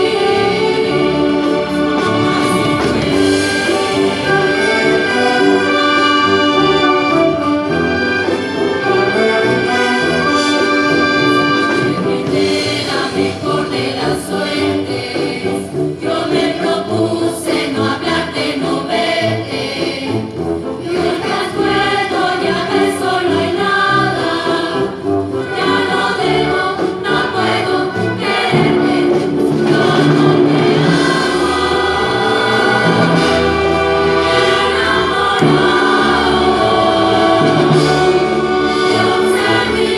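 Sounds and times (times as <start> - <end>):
choir singing: 0.0 - 39.9
orchestra playing: 0.0 - 39.9.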